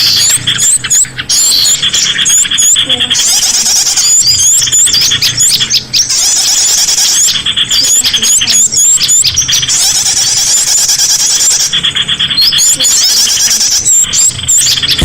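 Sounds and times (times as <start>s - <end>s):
small birds chirping and trilling: 0.0s - 15.0s.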